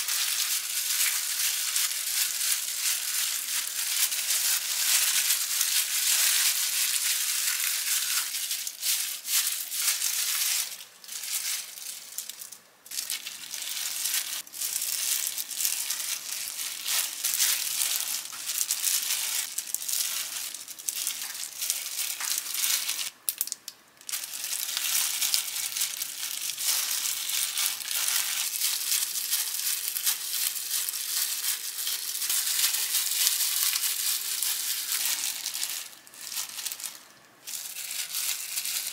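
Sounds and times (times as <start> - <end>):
plastic gloves crinkling: 0.0 - 38.9.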